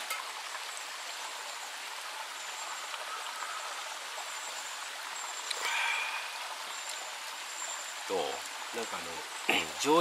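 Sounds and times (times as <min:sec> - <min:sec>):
steady water-like hiss: 0:00.0 - 0:10.0.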